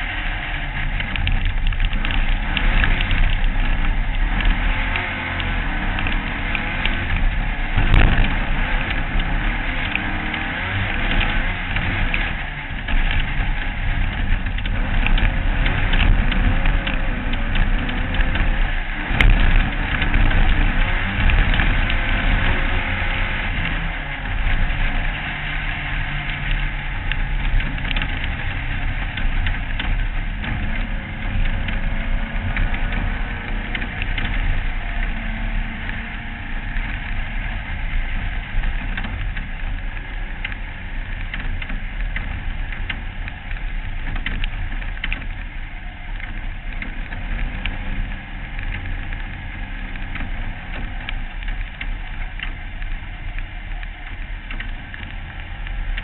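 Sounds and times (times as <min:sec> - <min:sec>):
race car engine running hard: 0:00.0 - 0:56.0
rough rushing noise: 0:00.0 - 0:56.0.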